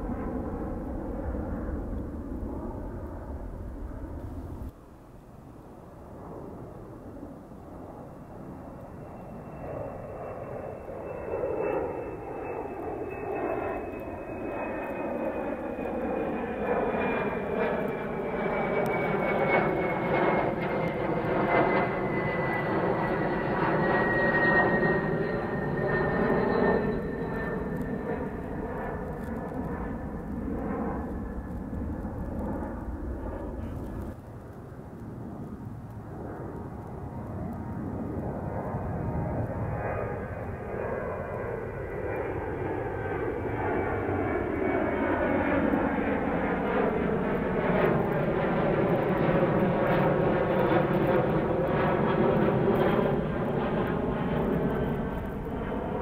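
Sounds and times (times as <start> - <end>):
jet airliner roar with fan whine: 0.0 - 56.0.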